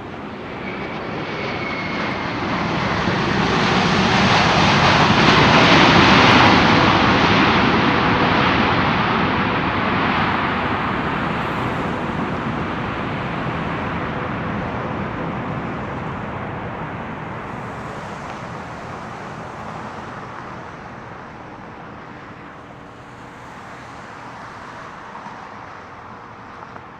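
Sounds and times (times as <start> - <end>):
faint steady whine: 0.0 - 26.9
jet engine noise: 0.0 - 26.9.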